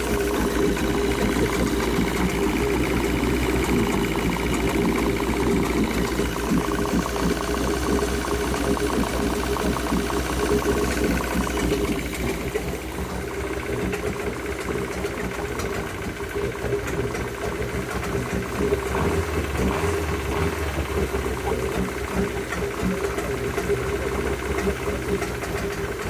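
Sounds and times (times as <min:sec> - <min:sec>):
fast even knocking tick: 0:00.0 - 0:26.0
outboard motor running: 0:00.0 - 0:26.0.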